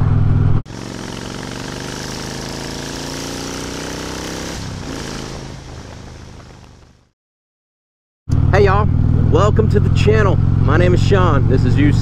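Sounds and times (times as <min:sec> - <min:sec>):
motorcycle engine accelerating: 0:00.0 - 0:07.1, 0:08.3 - 0:12.0.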